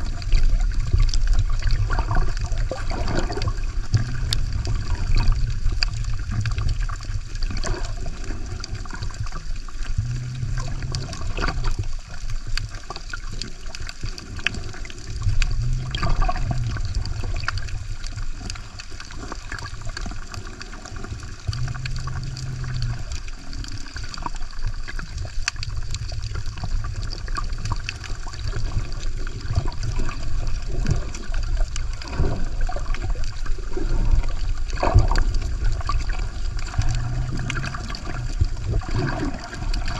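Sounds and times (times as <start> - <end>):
steady low rumble: 0.0 - 39.9
underwater water sloshing: 0.0 - 39.9.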